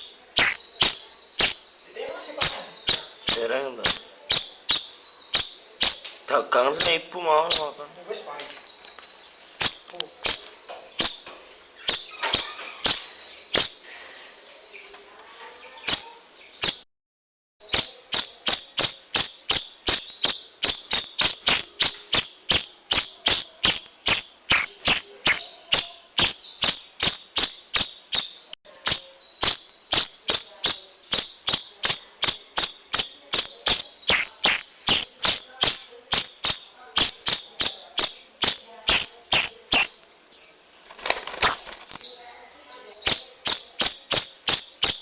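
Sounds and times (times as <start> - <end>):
songbird chirping sharply: 0.0 - 16.9, 17.6 - 45.0.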